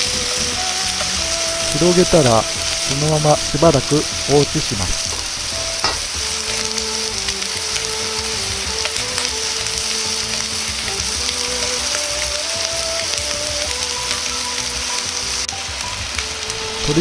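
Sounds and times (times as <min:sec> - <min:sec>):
chicken skin sizzling in a pan: 0:00.0 - 0:17.0
quiet background music: 0:00.0 - 0:17.0.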